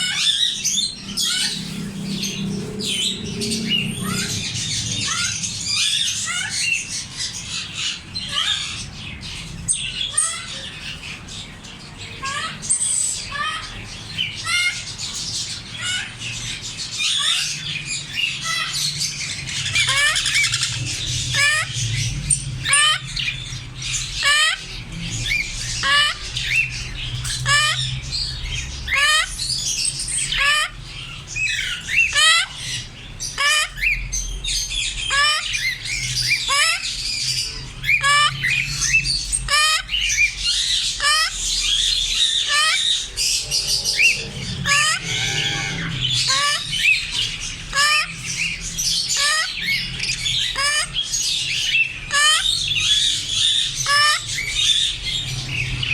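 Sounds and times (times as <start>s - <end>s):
parrots squawking and whistling: 0.0s - 55.9s.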